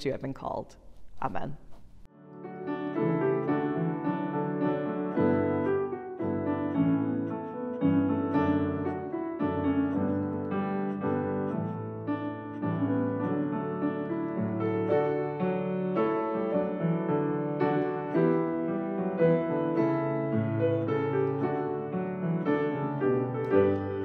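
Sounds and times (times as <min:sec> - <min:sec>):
piano chords and melody: 0:02.0 - 0:24.0.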